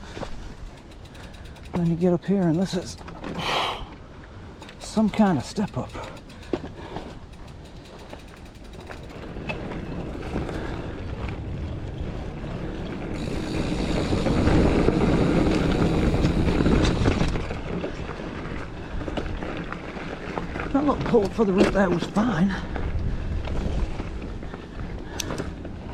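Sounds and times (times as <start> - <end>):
wind buffeting microphone: 0.0 - 19.6, 22.6 - 25.9
bike rattling: 0.0 - 25.9
bike tyres rolling on dirt: 0.0 - 25.9.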